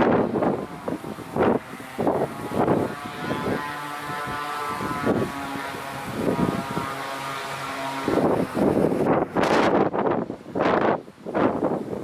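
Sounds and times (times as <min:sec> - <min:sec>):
hovercraft engine drone: 0:00.0 - 0:12.0
wind gusts on microphone: 0:00.0 - 0:12.0.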